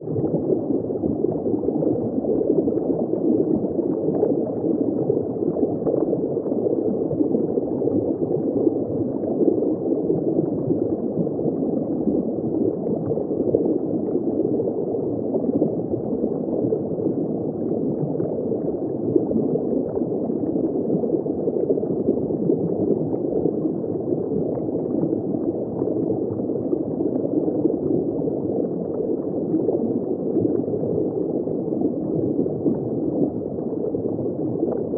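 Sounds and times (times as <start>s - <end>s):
underwater bubbling water: 0.0s - 34.9s.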